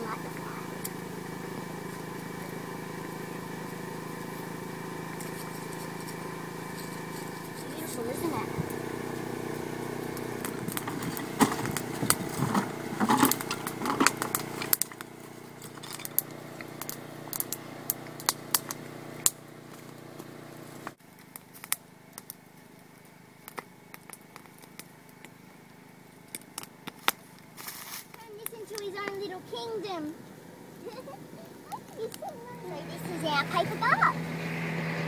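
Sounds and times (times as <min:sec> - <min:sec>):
campfire crackling: 0:00.0 - 0:35.0
steady low hum: 0:00.0 - 0:35.0.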